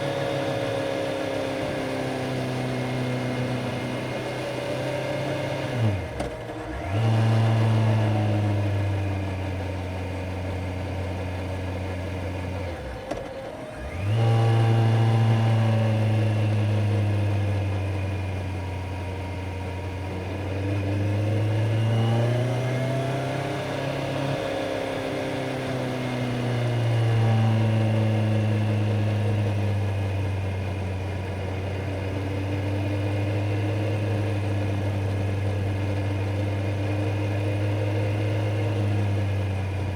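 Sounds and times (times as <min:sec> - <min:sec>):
motorcycle engine on the road: 0:00.0 - 0:39.9.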